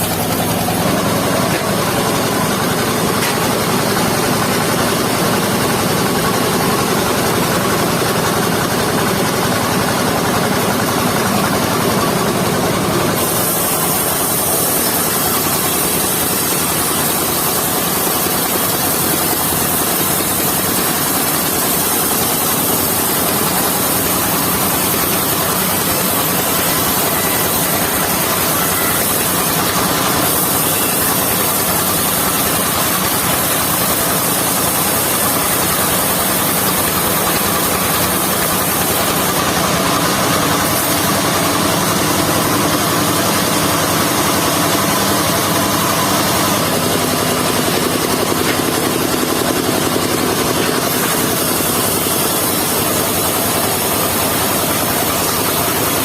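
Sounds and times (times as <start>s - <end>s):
sawmill engine and saw running: 0.0s - 56.0s.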